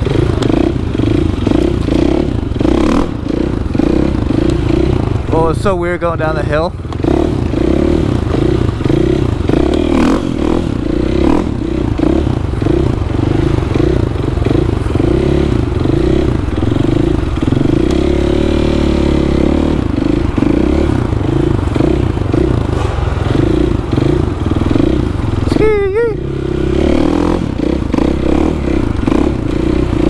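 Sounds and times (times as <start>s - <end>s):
motorcycle engine revving in pulses: 0.0s - 30.0s.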